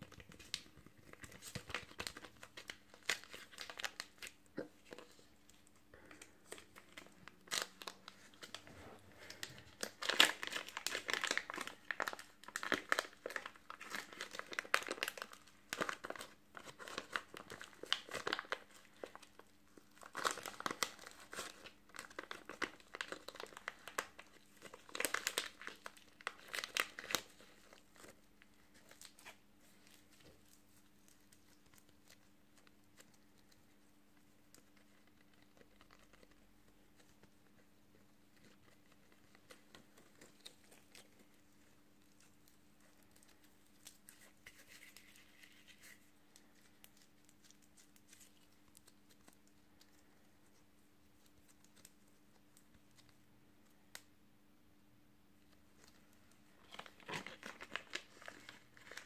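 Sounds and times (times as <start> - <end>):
plastic bag crinkling: 0.0 - 53.1, 55.8 - 59.0.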